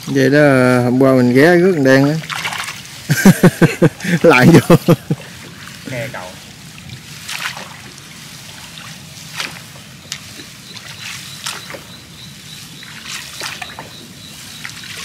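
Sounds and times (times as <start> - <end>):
water splashes: 0.0 - 15.0
water trickling and dripping: 0.0 - 15.0.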